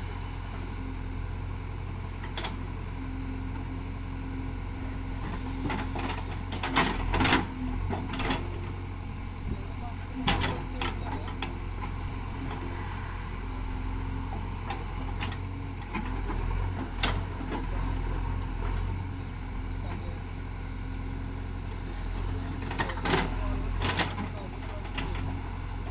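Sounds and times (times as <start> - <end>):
diesel machinery engine rumbling: 0.0 - 25.9.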